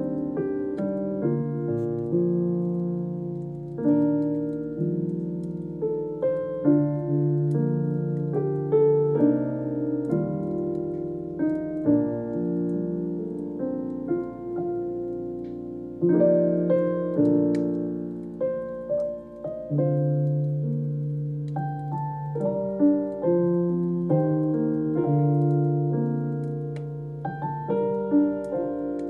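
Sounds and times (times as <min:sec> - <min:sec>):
slow solo piano: 0:00.0 - 0:29.0.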